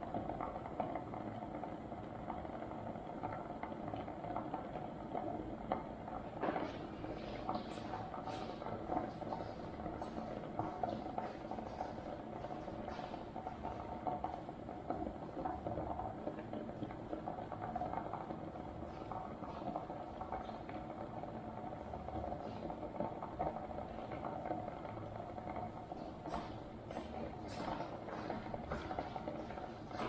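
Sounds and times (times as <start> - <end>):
kettle water bubbling: 0.0 - 30.0.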